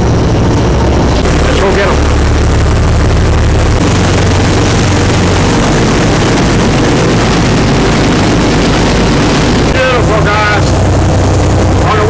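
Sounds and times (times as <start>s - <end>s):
boat engines running: 0.0s - 12.0s
water rushing: 0.0s - 12.0s.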